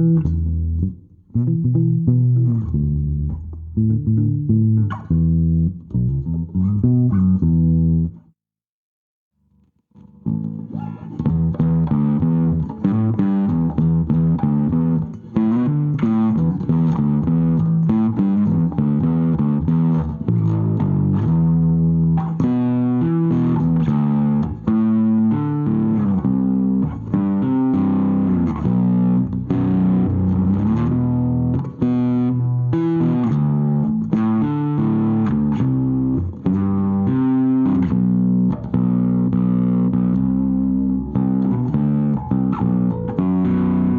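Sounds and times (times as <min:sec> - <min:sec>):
overdriven bass guitar: 0:00.0 - 0:08.3, 0:09.5 - 0:43.9.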